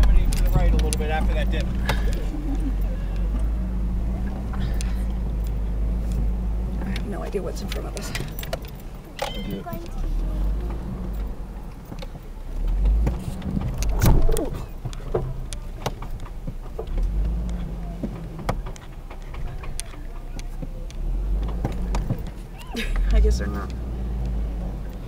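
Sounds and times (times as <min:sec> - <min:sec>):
engine and drivetrain rumble: 0:00.0 - 0:25.0
knocks and rattles: 0:00.0 - 0:25.0.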